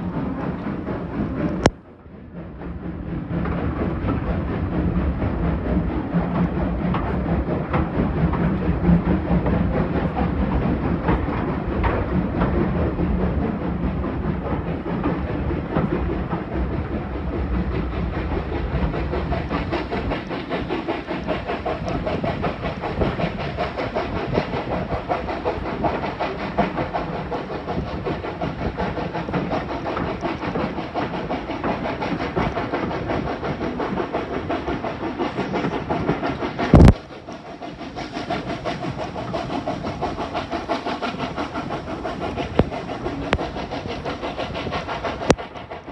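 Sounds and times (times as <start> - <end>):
steam locomotive exhaust and hiss: 0.0 - 45.9
train wheels clattering over rails: 0.0 - 45.9.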